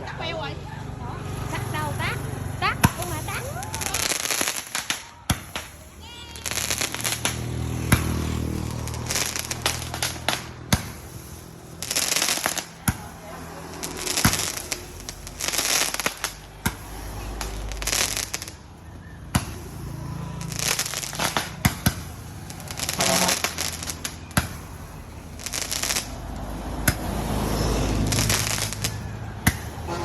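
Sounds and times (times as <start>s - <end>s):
fireworks crackling: 1.2s - 30.0s
fireworks bangs: 1.4s - 30.0s.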